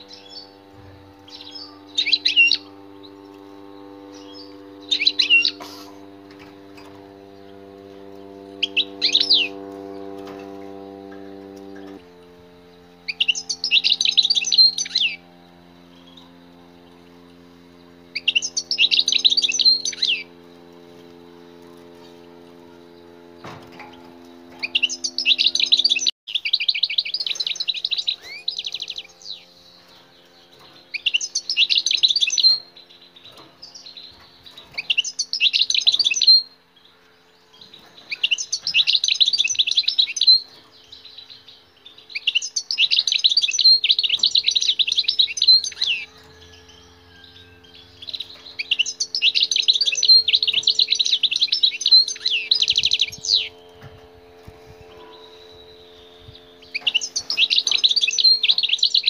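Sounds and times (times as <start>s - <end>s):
goldfinch twittering trills: 0.0s - 59.0s.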